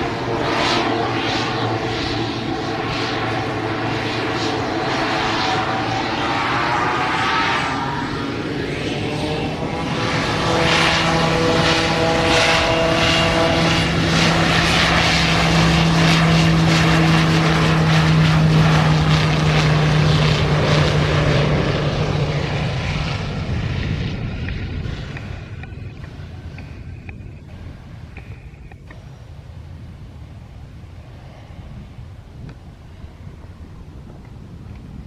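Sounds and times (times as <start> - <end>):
propeller airplane engine drone: 0.0 - 35.0.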